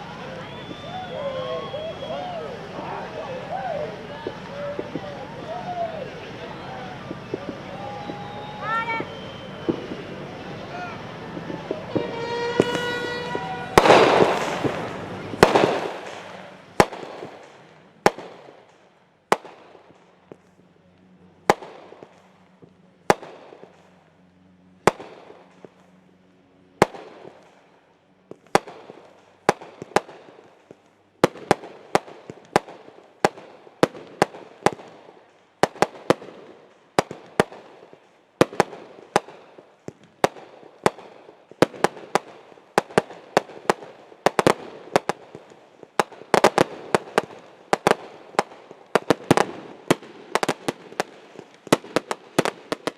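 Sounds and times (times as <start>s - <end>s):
fireworks banging: 0.0s - 52.9s.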